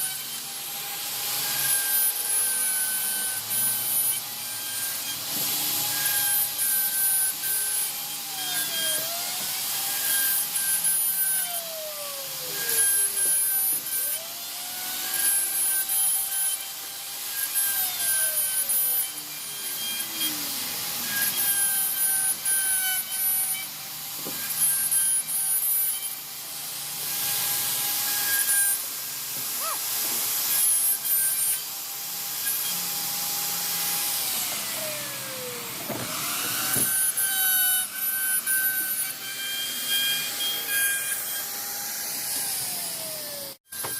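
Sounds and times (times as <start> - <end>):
rasping wood cutting noise: 0.0 - 43.9
router spindle whine: 0.0 - 43.9.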